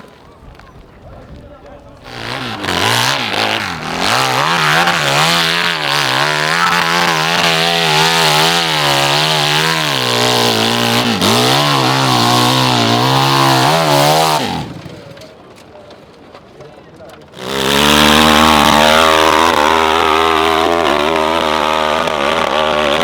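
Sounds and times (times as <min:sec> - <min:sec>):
dirt bike engine revving: 0:01.8 - 0:15.4, 0:17.3 - 0:23.0.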